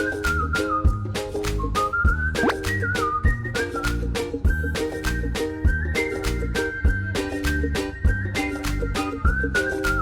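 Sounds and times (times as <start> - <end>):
whistled melody: 0.0 - 10.0.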